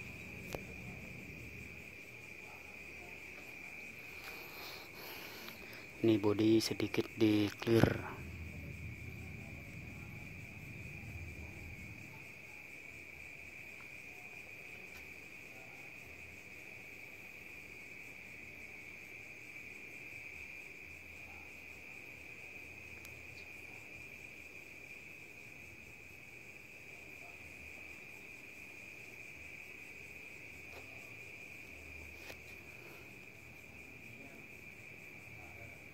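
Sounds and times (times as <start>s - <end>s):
crickets trilling: 0.0s - 35.9s.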